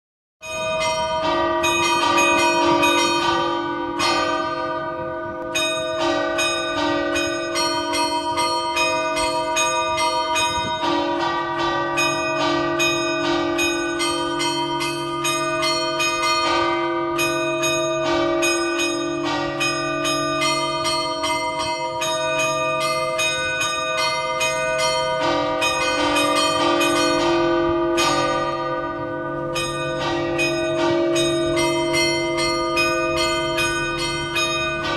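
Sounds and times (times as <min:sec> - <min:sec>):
large low bell: 0:00.4 - 0:34.9
small bells ringing: 0:00.4 - 0:34.9.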